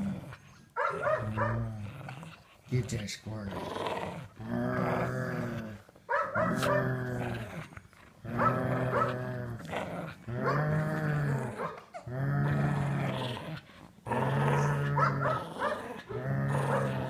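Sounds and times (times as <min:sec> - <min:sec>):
dog play-growling: 0:00.0 - 0:17.0.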